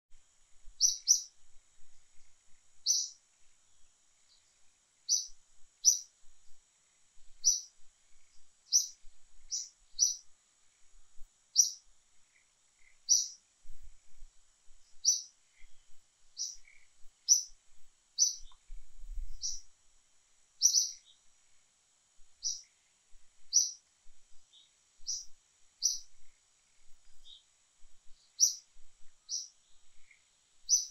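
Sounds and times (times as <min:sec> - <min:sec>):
faint steady high hiss: 0:00.0 - 0:30.9
small bird chirping: 0:00.6 - 0:19.8, 0:20.6 - 0:30.9.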